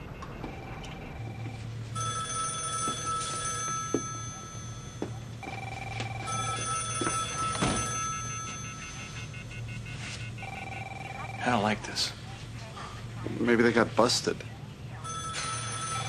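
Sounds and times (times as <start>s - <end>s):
telephone ringing: 0.0s - 12.0s, 15.0s - 16.0s.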